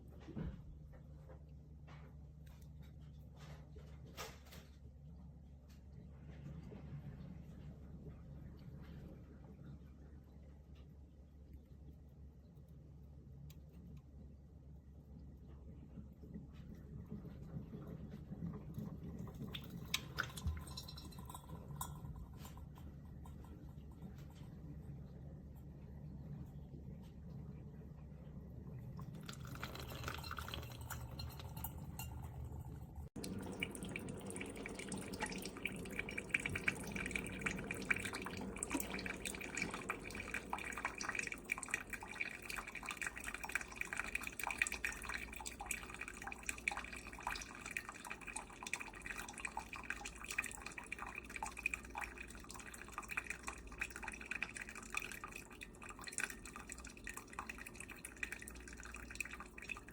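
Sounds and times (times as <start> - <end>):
coffee maker dripping water: 10.7 - 27.4, 28.0 - 59.9.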